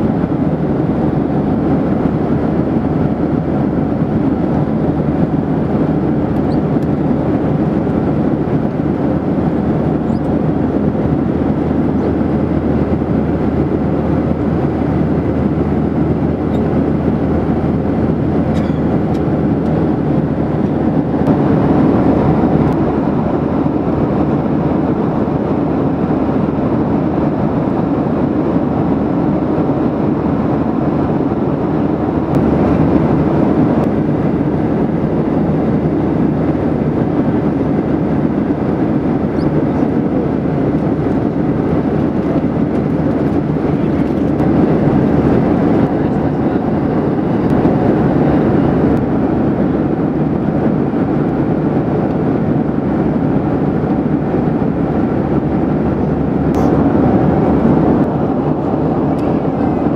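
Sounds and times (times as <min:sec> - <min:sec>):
airplane cabin engine rush: 0:00.0 - 0:59.9.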